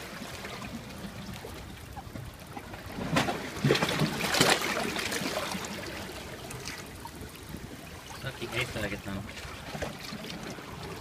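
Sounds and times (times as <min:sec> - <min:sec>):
water sloshing surges: 0:00.0 - 0:11.0.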